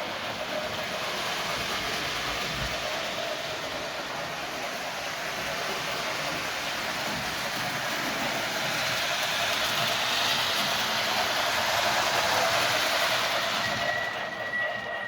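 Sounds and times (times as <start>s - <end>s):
model train wheels on rails: 0.0s - 15.0s
steam locomotive rushing noise: 0.0s - 15.0s.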